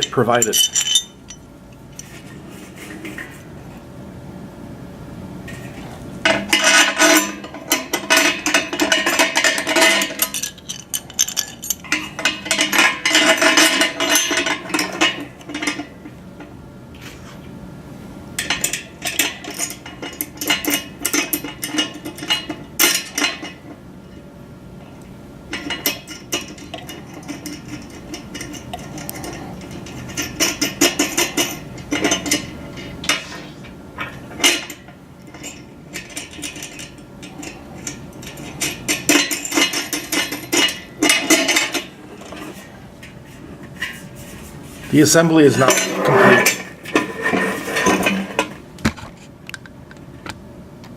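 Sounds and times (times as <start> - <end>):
metal parts clinking and rattling: 0.0 - 3.4, 5.5 - 16.1, 18.4 - 23.8, 25.5 - 44.3, 44.9 - 48.6.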